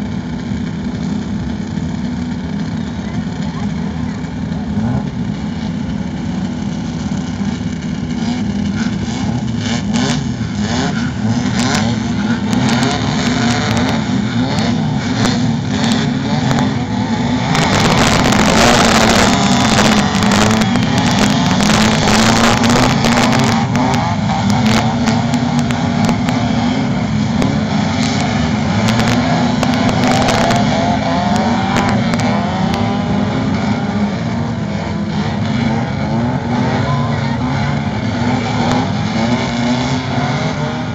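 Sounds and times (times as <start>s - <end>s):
buggy engines revving: 0.0s - 40.9s.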